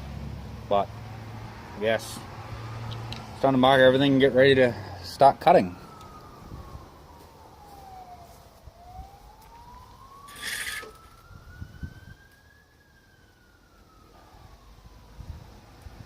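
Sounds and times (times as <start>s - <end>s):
distant siren wailing: 0.2s - 16.0s.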